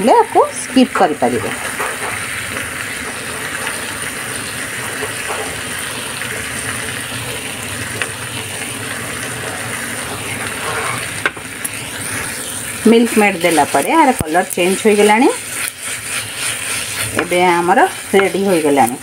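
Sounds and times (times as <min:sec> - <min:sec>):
sizzling in a pan: 0:00.0 - 0:19.0.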